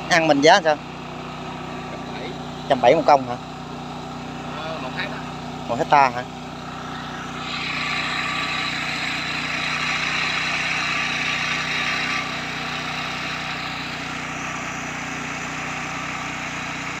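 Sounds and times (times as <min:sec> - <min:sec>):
drone rotors humming: 0:00.0 - 0:17.0.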